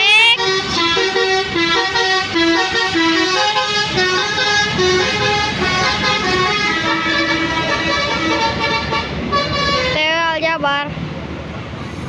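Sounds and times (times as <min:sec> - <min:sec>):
multi-tone bus horn melody: 0:00.0 - 0:10.3
bus and traffic rumble: 0:00.0 - 0:12.0.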